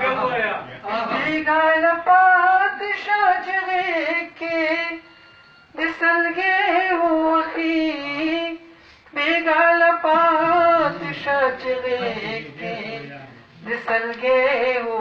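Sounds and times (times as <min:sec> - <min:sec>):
man singing unaccompanied: 0:00.8 - 0:05.0, 0:05.8 - 0:15.0.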